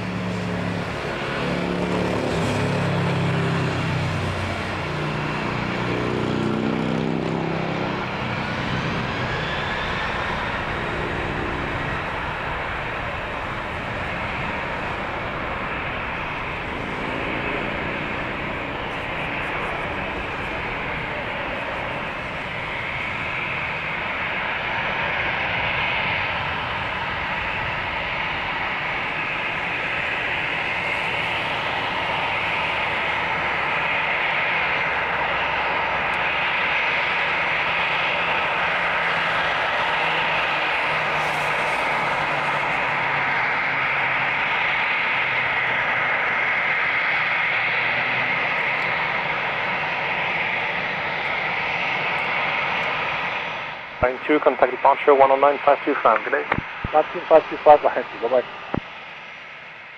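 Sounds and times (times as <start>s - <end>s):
jet engines at takeoff thrust: 0.0s - 59.9s.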